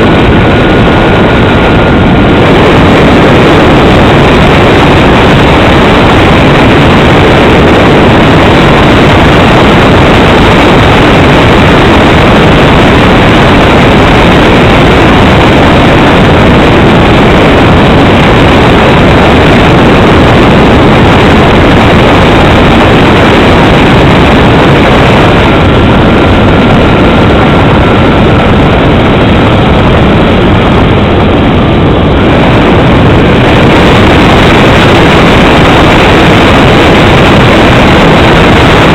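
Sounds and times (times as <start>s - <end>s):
aircraft engines and airflow: 0.0s - 38.9s.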